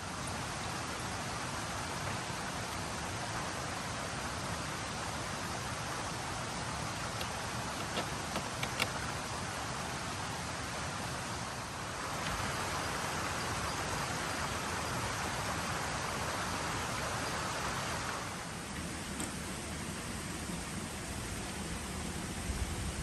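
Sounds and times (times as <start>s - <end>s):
light rain hissing: 0.0s - 23.0s.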